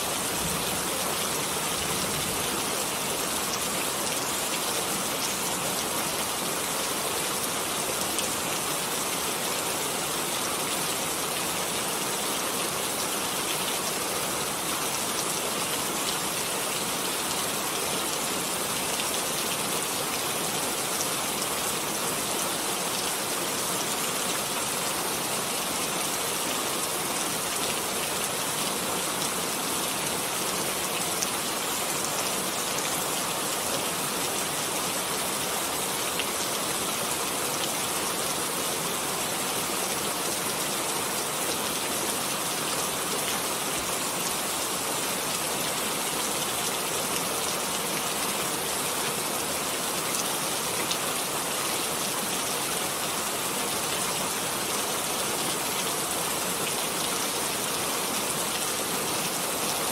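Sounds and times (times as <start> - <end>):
steady rain on surfaces: 0.0 - 59.9.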